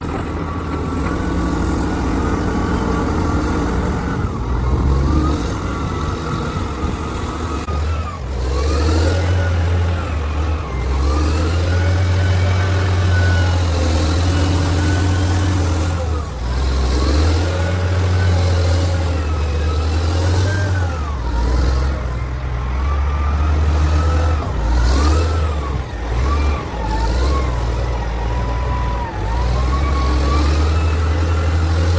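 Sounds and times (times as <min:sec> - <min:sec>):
excavator diesel engine drone: 0:00.0 - 0:31.9
hydraulic whine: 0:00.0 - 0:31.9.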